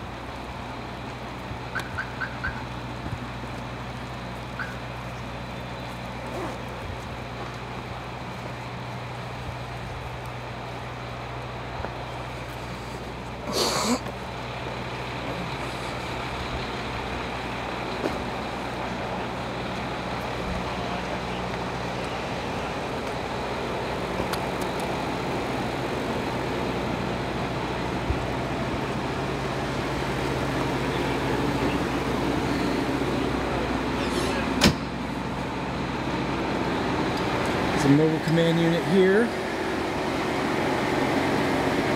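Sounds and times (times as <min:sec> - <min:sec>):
trucks idling: 0:00.0 - 0:41.9.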